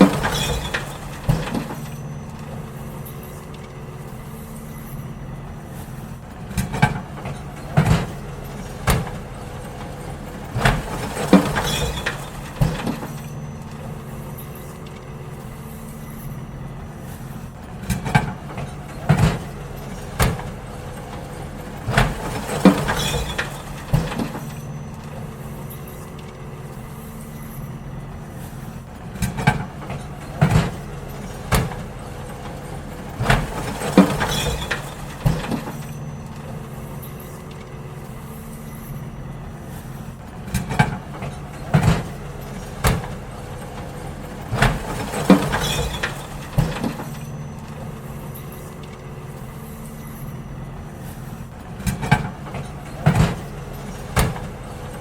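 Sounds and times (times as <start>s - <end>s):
bins clattering against truck: 0.0s - 55.0s
garbage truck engine running: 0.0s - 55.0s.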